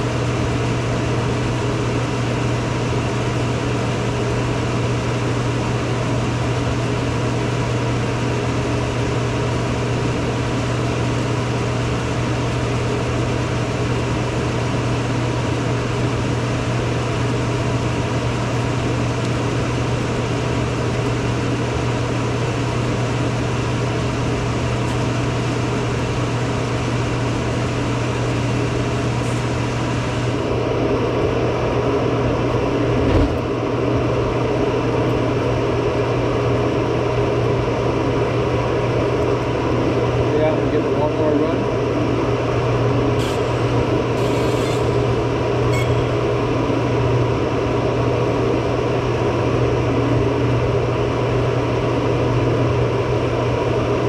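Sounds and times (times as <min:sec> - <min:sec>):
fume extractor blower humming: 0:00.0 - 0:54.0.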